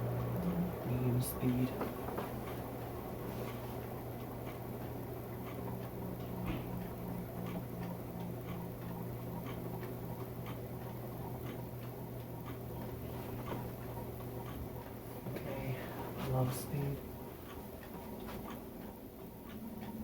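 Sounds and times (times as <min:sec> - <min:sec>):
ceiling fan motor hum: 0:00.0 - 0:20.0
fan ticking: 0:00.0 - 0:20.0.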